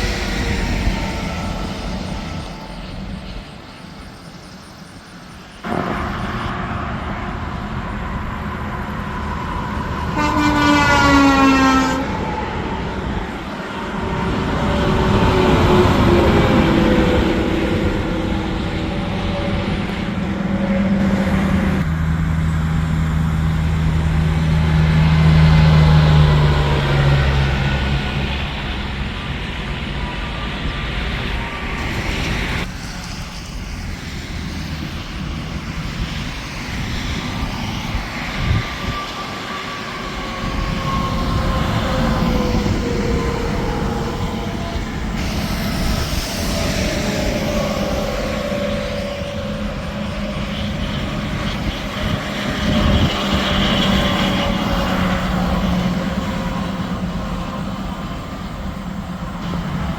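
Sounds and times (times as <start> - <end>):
trucks passing at highway speed: 0.0 - 59.9.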